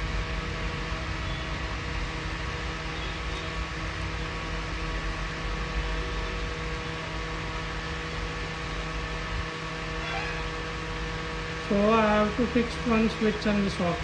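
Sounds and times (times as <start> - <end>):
fan blades rushing air: 0.0 - 14.0
motor hum: 0.0 - 14.0.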